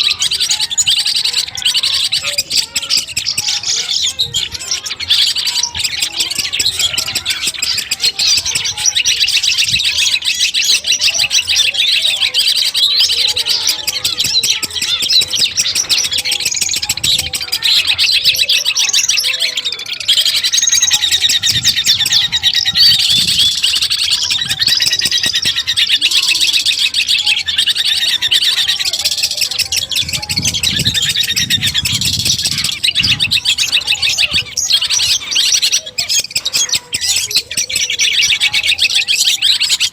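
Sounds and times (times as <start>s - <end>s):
shrike twittering song: 0.0s - 39.9s.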